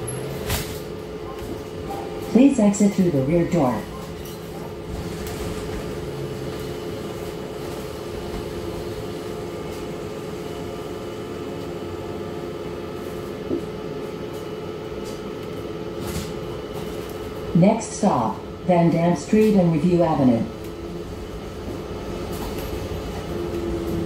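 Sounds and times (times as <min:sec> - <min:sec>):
bus engine hum: 0:00.0 - 0:24.0.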